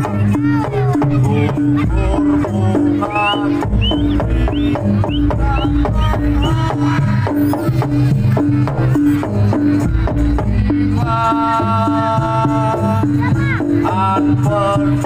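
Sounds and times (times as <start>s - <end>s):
drums and percussion beat: 0.0s - 15.0s
live ensemble music: 0.0s - 15.0s.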